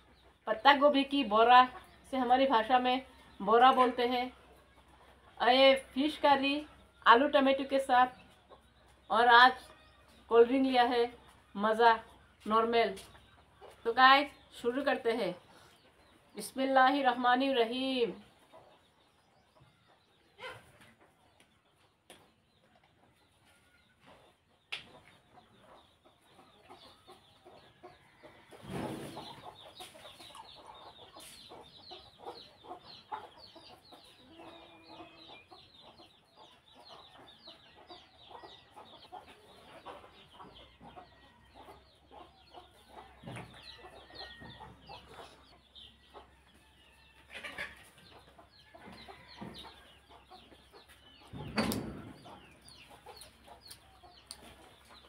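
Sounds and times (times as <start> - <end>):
birds calling: 0.0 - 55.0.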